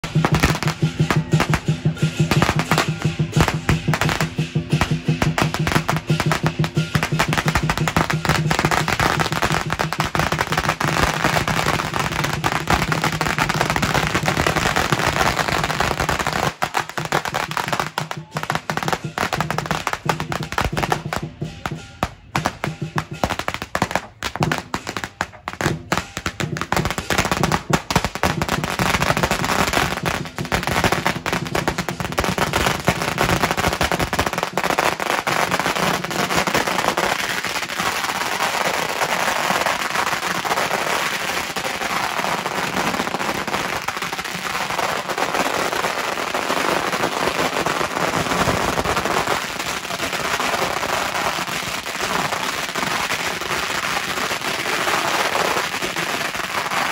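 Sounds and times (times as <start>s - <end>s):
firecrackers crackling: 0.0s - 56.9s.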